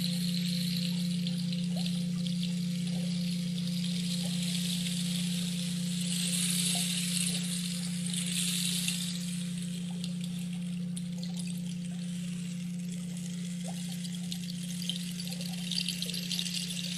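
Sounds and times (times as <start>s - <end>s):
running water: 0.0s - 16.9s
steady low hum: 0.0s - 16.9s.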